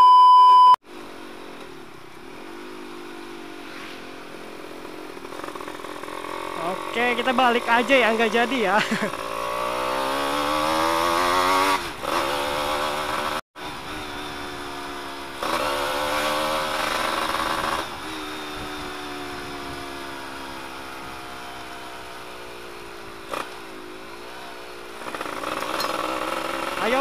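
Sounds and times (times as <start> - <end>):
two-stroke motorcycle engine revving: 0.9 - 27.0.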